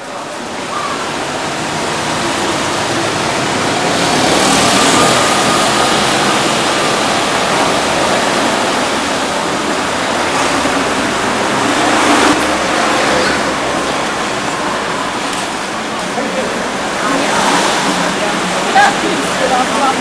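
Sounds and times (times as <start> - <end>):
town street noise: 0.0 - 20.0.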